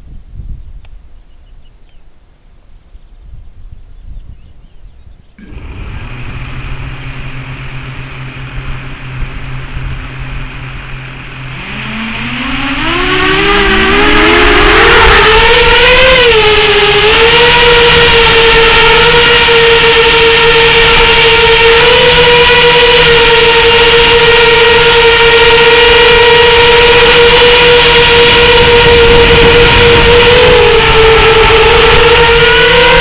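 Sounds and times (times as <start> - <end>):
drone motors whining: 5.4 - 33.0.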